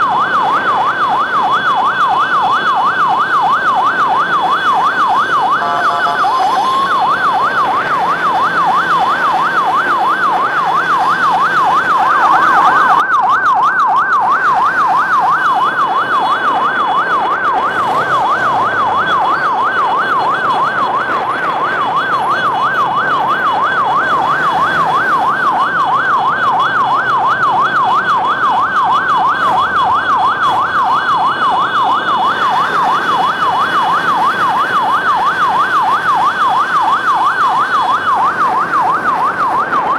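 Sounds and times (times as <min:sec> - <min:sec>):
electronic siren yelping: 0:00.0 - 0:39.9
motorcycle traffic: 0:00.0 - 0:39.9.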